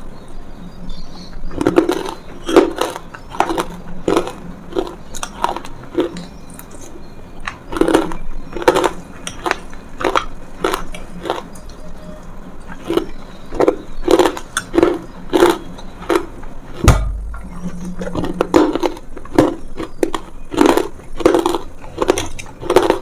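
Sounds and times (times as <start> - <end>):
person crunching something brittle: 1.5 - 11.8, 12.7 - 23.0.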